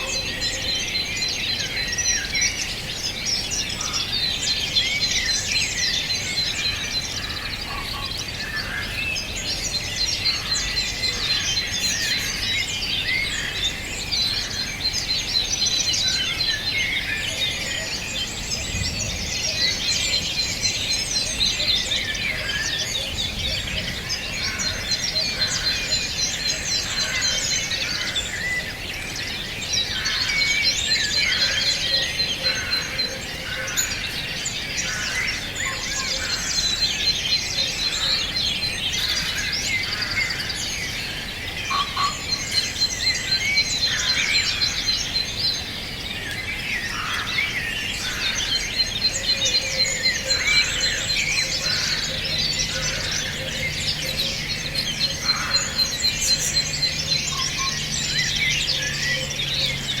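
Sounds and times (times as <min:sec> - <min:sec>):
birds chirping and whistling: 0:00.0 - 1:00.0.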